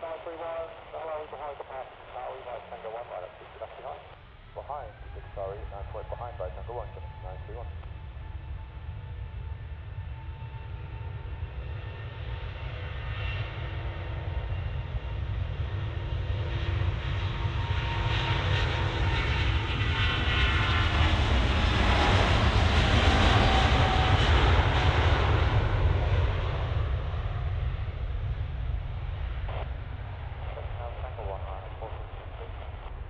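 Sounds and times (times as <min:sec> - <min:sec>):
airliner jet engines rumbling: 0:00.0 - 0:33.0.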